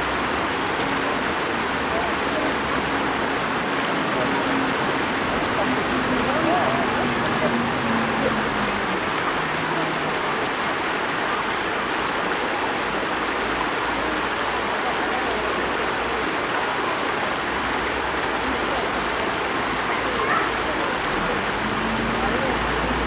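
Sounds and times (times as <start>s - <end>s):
stream water rushing over rocks: 0.0s - 23.0s.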